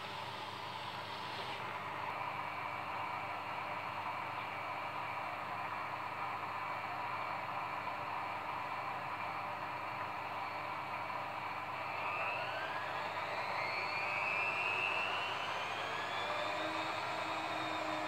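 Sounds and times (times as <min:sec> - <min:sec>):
washing machine motor whine: 0:00.0 - 0:18.0.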